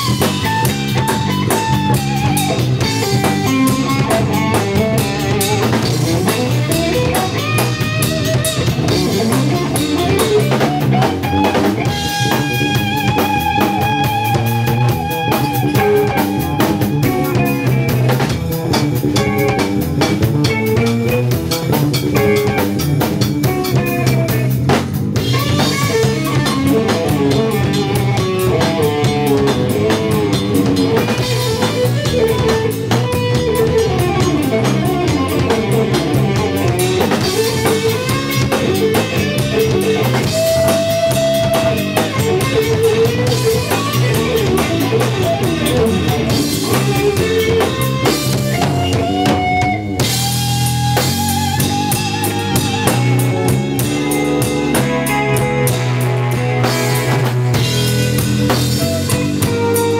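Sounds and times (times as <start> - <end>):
drum kit playing: 0.0 - 59.9
lead electric guitar: 0.0 - 59.9.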